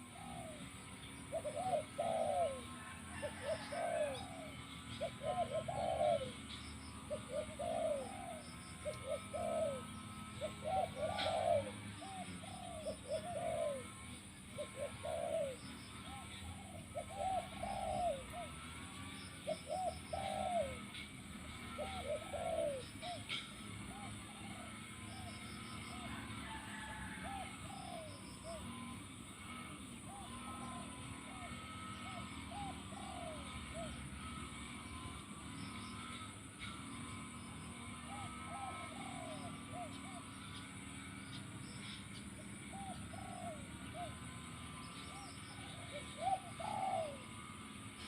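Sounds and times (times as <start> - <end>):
dove cooing: 0.0 - 48.0.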